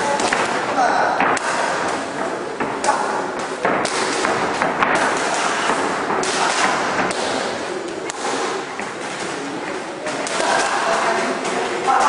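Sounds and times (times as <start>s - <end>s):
boxing gloves striking mitts: 0.0s - 12.0s
steady background noise: 0.0s - 12.0s.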